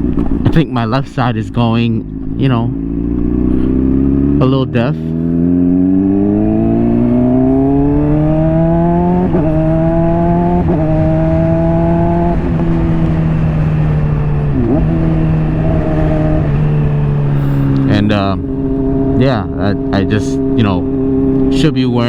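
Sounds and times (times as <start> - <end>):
motorcycle engine while riding: 0.0 - 22.0.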